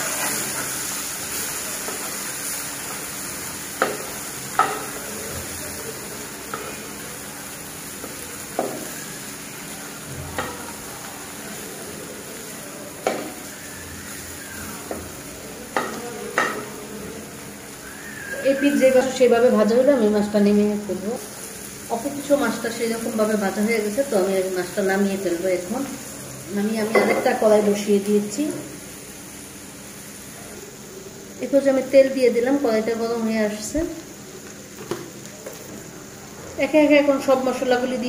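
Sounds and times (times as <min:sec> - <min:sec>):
prawns sizzling in hot oil: 0:00.0 - 0:38.0.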